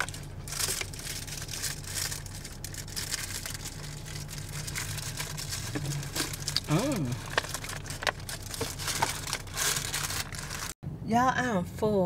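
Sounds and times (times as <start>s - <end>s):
plastic bottle crinkling: 0.0s - 10.8s
car engine hum: 0.0s - 12.0s.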